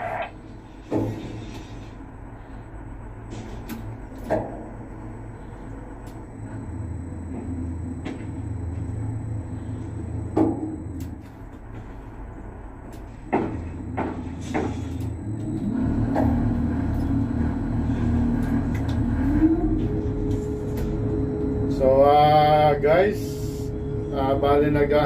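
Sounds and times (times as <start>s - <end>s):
low mechanical rumble: 0.0s - 25.0s.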